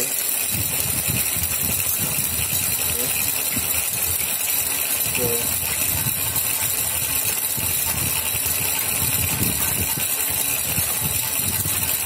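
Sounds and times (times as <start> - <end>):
electric motor drivetrain whirring: 0.0 - 12.0.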